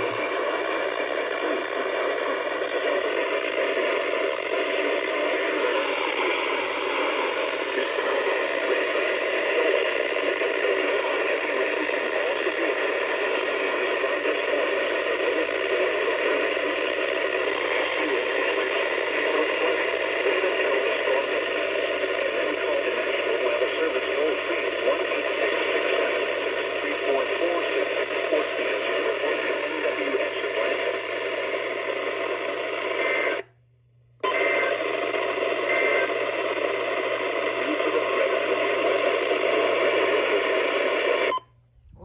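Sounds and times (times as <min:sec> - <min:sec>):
radio static hiss: 0:00.0 - 0:33.5, 0:34.2 - 0:41.5.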